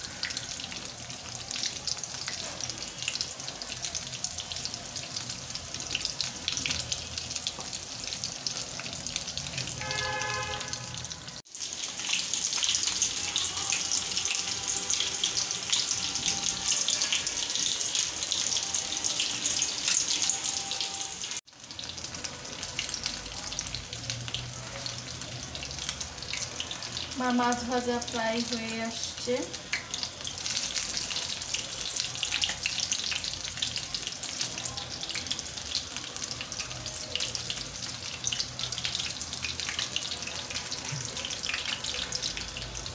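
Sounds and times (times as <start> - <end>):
fish deep-frying in oil: 0.0 - 42.9.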